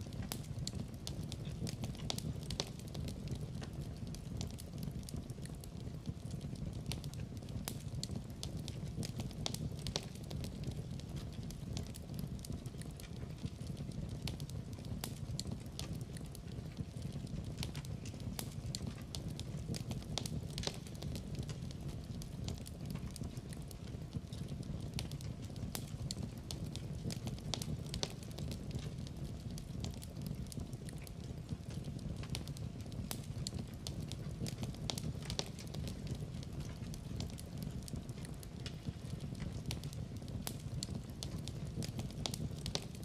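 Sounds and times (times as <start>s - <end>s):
fire low rumble: 0.0s - 43.0s
wood fire crackling and popping: 0.0s - 43.0s.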